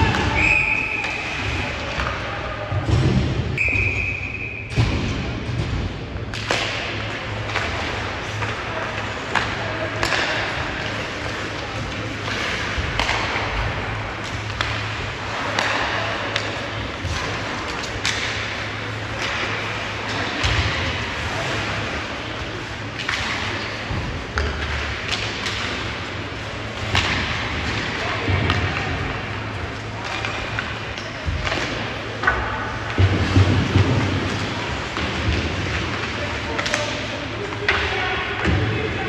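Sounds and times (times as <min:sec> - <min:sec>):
puck and sticks hitting boards: 0:00.0 - 0:39.0
skating and arena noise: 0:00.0 - 0:39.0.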